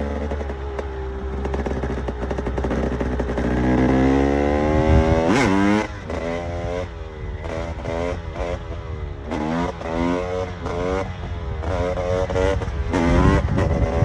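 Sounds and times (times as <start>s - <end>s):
two-stroke engine revving: 0.0s - 14.0s.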